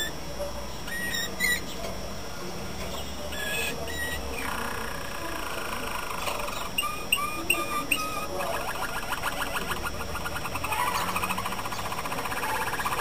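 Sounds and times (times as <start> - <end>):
canary singing: 0.0 - 1.9, 2.9 - 13.0.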